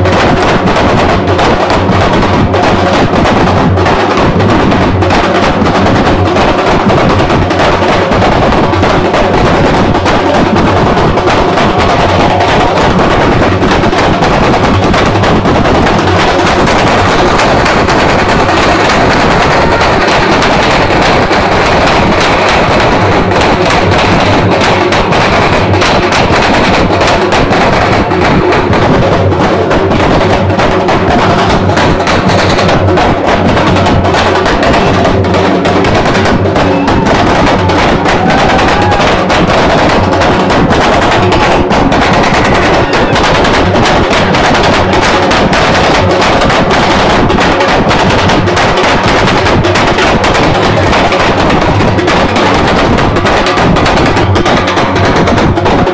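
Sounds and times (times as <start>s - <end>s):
fast group drumming: 0.0s - 55.9s.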